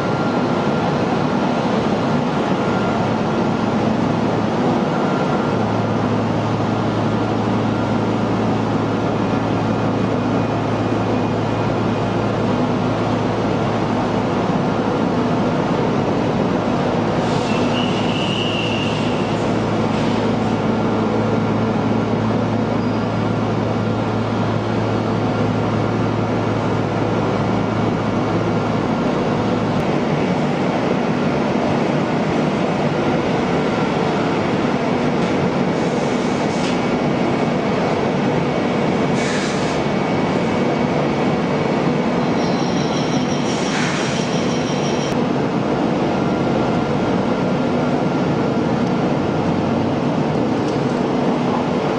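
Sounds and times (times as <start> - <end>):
machining line mechanical noise: 0.0 - 51.9.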